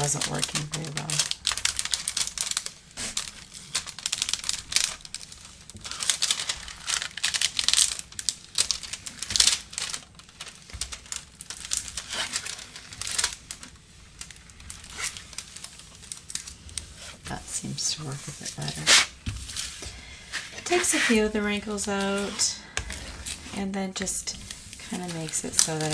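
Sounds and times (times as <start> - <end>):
plastic film crinkling and rustling: 0.0 - 25.9.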